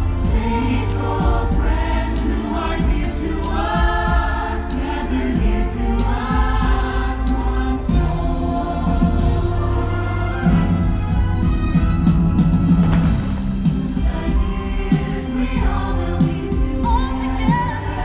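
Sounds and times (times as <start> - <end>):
choir singing held notes: 0.0 - 11.5, 12.9 - 18.0.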